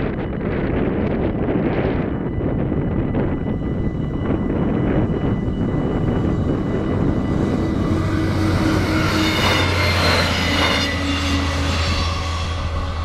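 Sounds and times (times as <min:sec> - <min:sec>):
railcar engine hum: 0:00.0 - 0:13.0
wheel and rail noise: 0:00.0 - 0:13.0
wind buffeting microphone: 0:00.0 - 0:13.0
level crossing bells ringing: 0:01.7 - 0:13.0.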